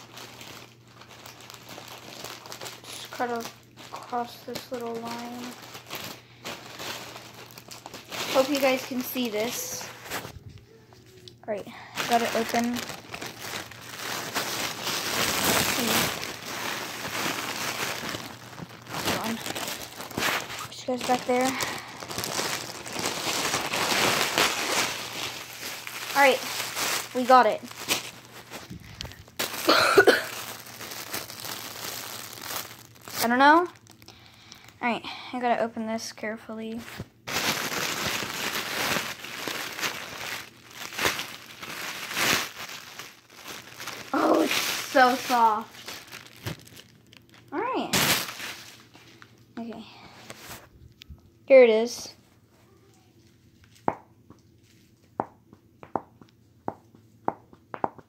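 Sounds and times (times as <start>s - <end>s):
package rustling and crinkling: 0.0s - 34.8s, 36.5s - 51.0s.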